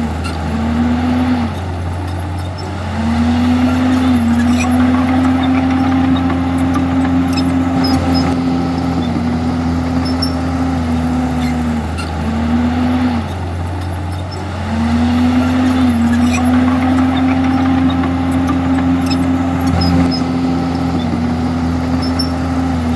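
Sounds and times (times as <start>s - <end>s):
bulldozer diesel engine running: 0.0s - 22.9s.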